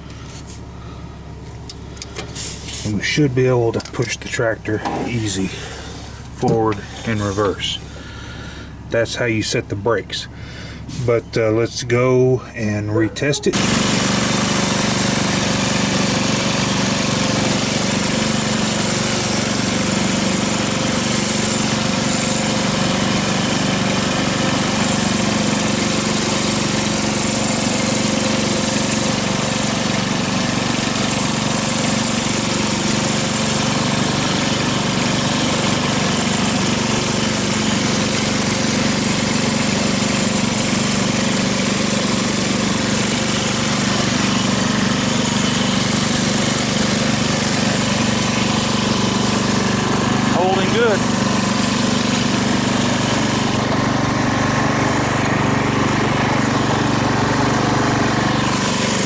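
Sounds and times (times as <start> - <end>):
riding lawn mower engine running: 0.0 - 59.0.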